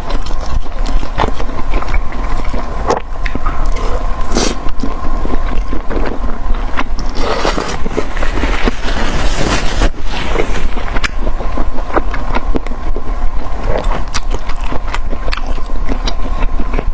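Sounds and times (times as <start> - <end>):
chewing and crunching food: 0.0 - 16.9
steady low hum: 0.0 - 16.9.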